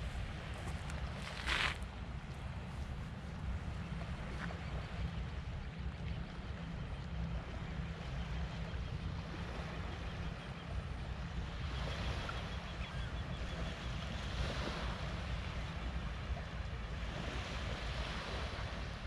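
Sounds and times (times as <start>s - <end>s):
small waves on sandy shore: 0.0s - 19.0s
wind rumbling on microphone: 0.0s - 19.0s.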